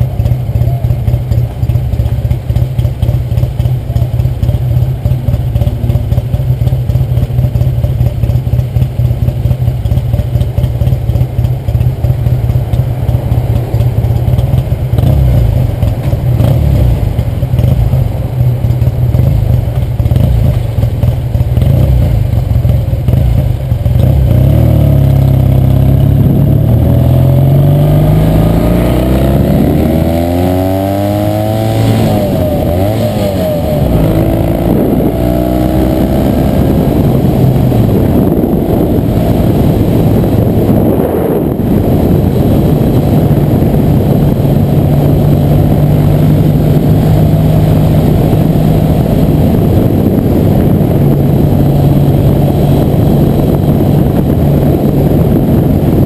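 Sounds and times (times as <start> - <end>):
motorcycle engine accelerating: 0.0 - 56.0
wind rush on microphone: 7.5 - 56.0.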